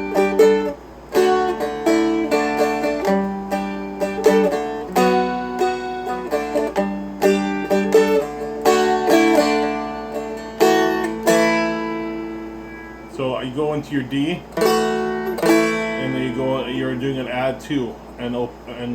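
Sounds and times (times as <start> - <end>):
flatpicked dulcimer: 0.0 - 13.4, 14.6 - 16.6.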